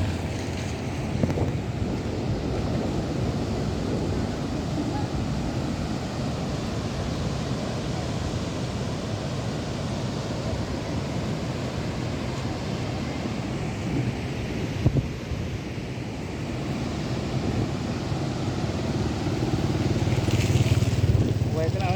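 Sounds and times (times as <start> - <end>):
floodwater rushing: 0.0 - 21.9
wind buffeting microphone: 0.0 - 21.9.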